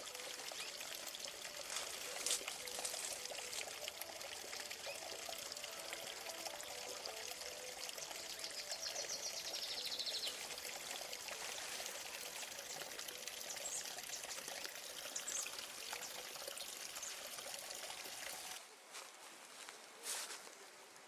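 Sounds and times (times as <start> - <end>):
stream water rushing: 0.0 - 18.6.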